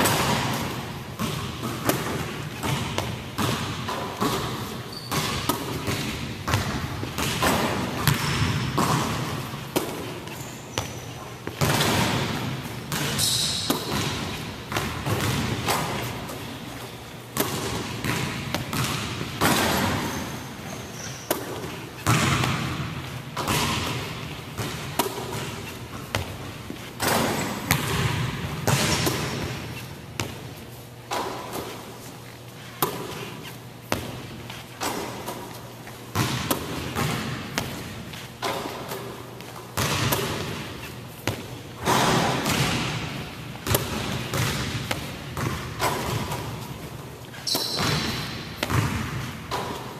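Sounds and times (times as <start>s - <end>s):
basketballs bouncing on hardwood: 0.0s - 16.7s, 17.4s - 31.8s, 33.9s - 35.5s, 36.1s - 49.9s.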